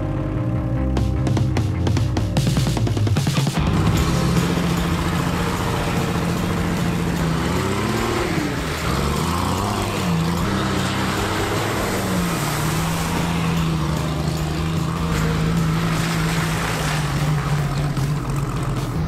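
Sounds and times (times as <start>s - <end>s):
diesel engine running under load: 3.4s - 19.0s.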